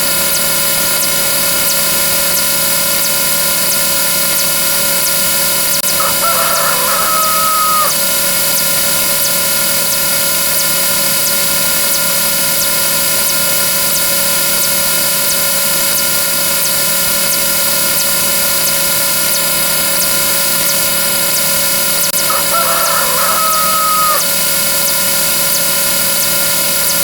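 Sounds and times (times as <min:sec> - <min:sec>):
faint regular ticks: 0:00.1 - 0:27.0.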